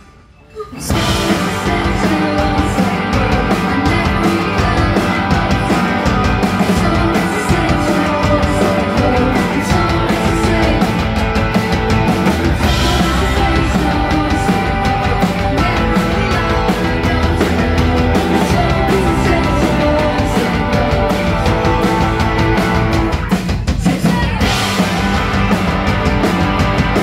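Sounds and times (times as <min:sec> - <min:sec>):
drum kit: 0:00.8 - 0:27.0
electric guitars: 0:00.8 - 0:27.0.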